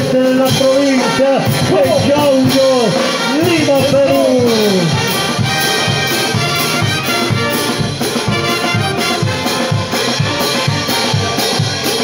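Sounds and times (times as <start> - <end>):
bass drum beat: 0.0 - 12.0
brass band playing carnival music: 0.0 - 12.0
trumpets: 0.0 - 12.0.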